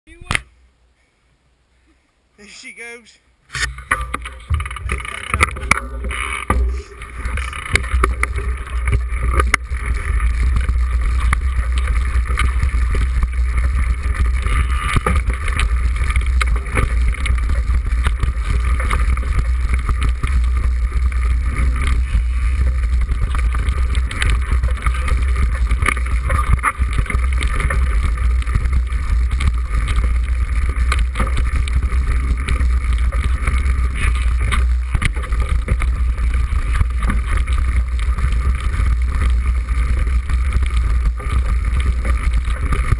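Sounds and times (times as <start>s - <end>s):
bike knocks and rattles: 3.6s - 42.9s.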